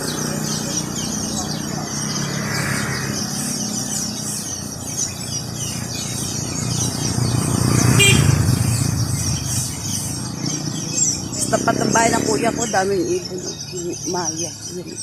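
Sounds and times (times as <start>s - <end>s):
motor vehicle passing: 0.0s - 15.0s
sparrows chirping: 0.0s - 15.0s.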